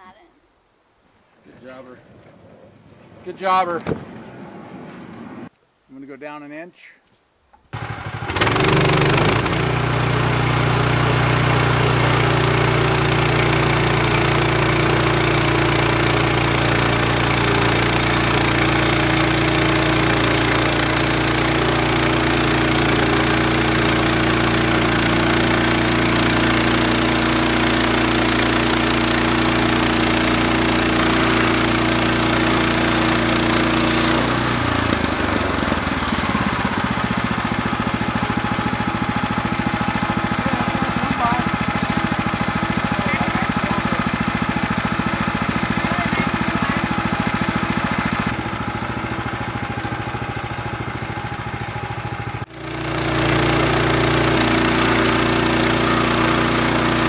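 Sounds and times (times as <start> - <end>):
sawmill engine running under load: 7.8 - 57.0.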